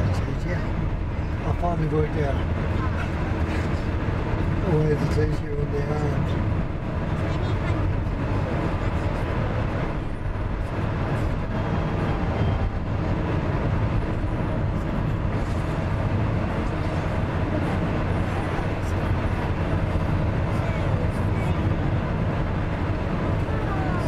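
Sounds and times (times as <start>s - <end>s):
car interior road noise: 0.0s - 24.0s.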